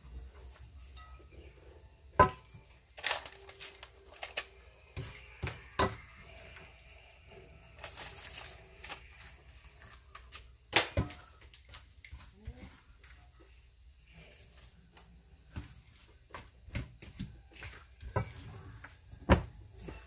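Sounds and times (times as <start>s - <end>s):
spatula scraping and rustling: 0.0s - 20.0s.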